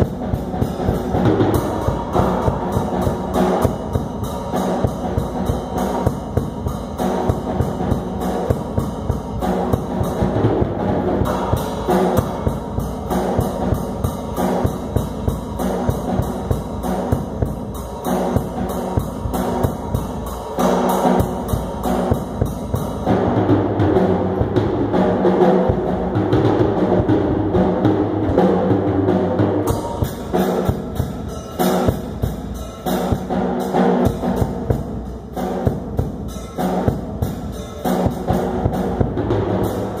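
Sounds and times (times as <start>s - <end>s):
cymbals: 0.0s - 40.0s
drum kit playing: 0.0s - 40.0s.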